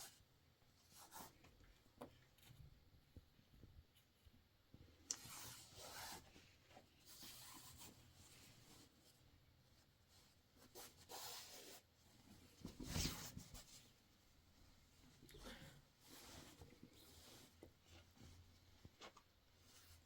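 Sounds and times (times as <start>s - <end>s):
faint rustling and scraping: 0.0s - 20.0s.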